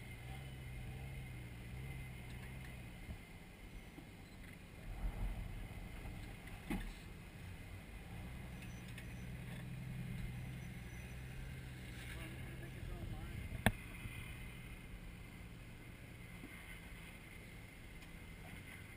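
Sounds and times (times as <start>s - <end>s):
engine running at low revs: 0.0s - 18.9s.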